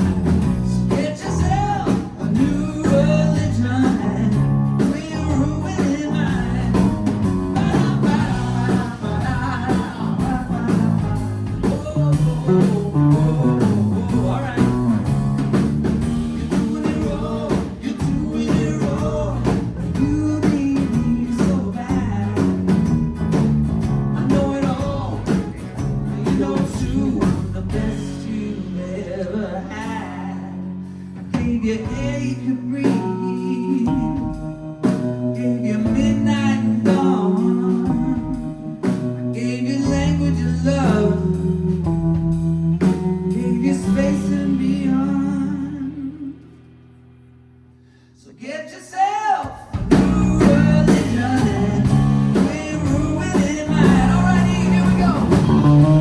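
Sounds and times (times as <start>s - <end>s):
man singing: 0.0s - 15.5s, 16.3s - 22.8s, 24.0s - 42.0s, 42.8s - 46.5s, 48.2s - 56.0s
live pop-rock band: 0.0s - 56.0s.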